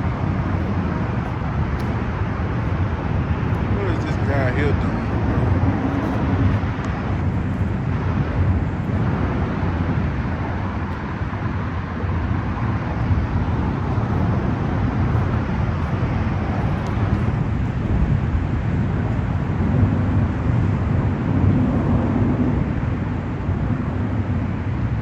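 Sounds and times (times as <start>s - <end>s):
low rumble: 0.0s - 22.4s.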